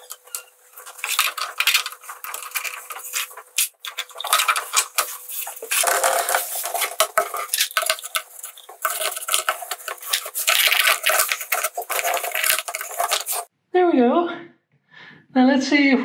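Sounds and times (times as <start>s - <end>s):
plastic clicking and scraping: 0.0s - 13.5s.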